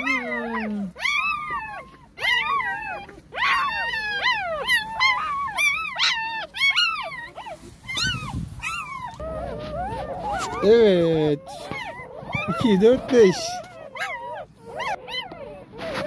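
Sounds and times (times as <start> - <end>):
puppies whining and squealing: 0.0 - 16.0.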